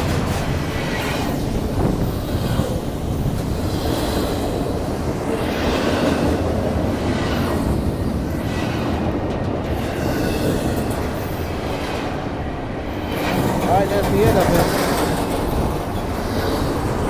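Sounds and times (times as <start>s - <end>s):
freight train wheels on rail: 0.0s - 17.0s.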